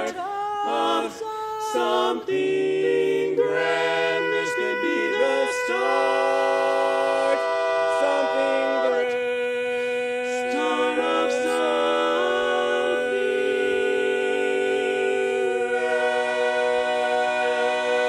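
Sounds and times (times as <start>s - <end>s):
quartet singing a cappella: 0.0s - 18.0s.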